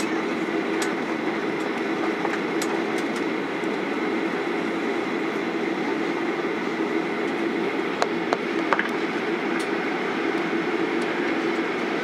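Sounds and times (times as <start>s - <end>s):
aircraft cabin engine hum: 0.0s - 12.0s.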